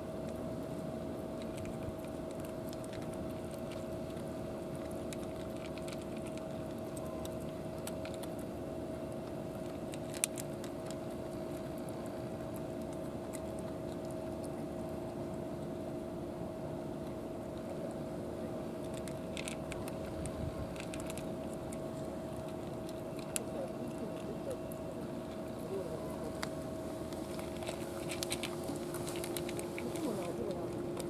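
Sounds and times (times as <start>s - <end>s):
cats crunching dry kibble: 0.0s - 31.0s
steady background hum: 0.0s - 31.0s.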